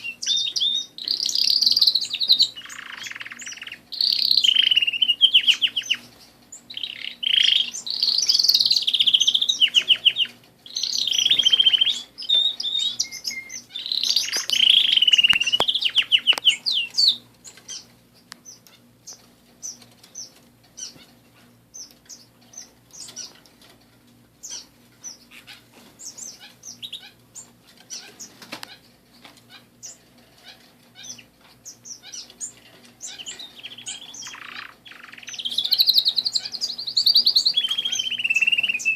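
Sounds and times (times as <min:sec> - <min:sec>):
bird chirps and clicks: 0:00.0 - 0:38.9
canaries singing: 0:00.0 - 0:38.9
faint steady hum: 0:00.0 - 0:38.9.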